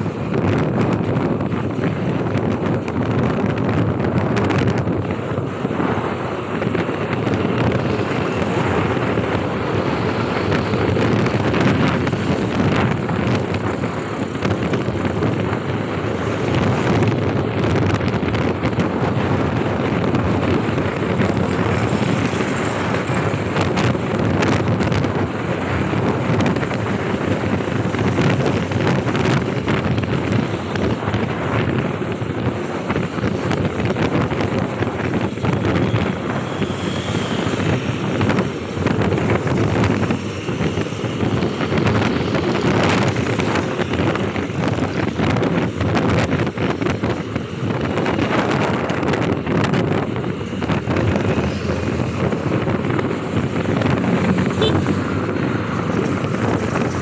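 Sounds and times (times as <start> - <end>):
motorcycle engine rumble: 0.0 - 57.0
road traffic: 0.0 - 57.0
wind rushing over microphone: 0.0 - 57.0.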